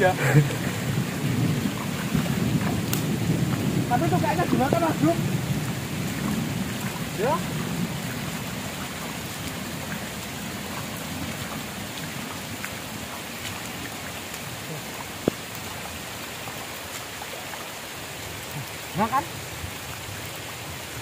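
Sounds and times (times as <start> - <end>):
rain falling on water and grass: 0.0 - 21.0.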